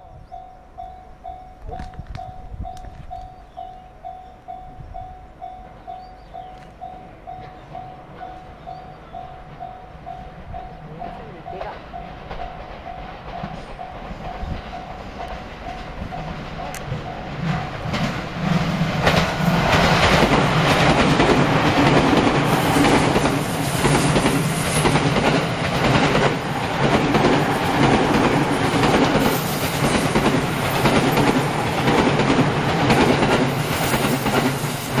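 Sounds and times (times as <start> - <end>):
electric train passing: 0.0 - 35.0
train wheel clatter: 5.6 - 35.0.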